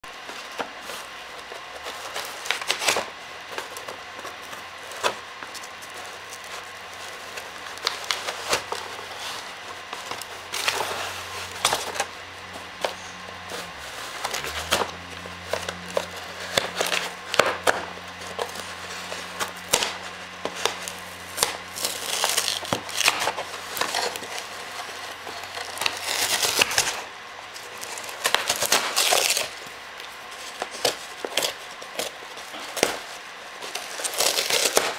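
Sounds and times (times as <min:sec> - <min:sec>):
low steady hum: 0:00.0 - 0:34.9
cardboard ripping: 0:00.1 - 0:34.9
dog chewing cardboard: 0:00.2 - 0:34.9.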